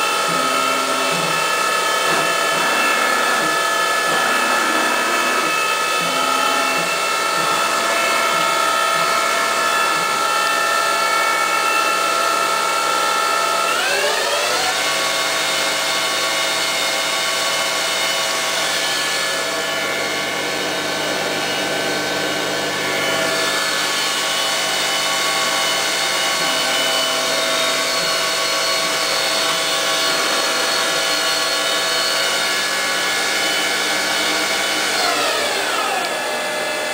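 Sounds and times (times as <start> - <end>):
machine spindle whine: 0.0 - 36.9.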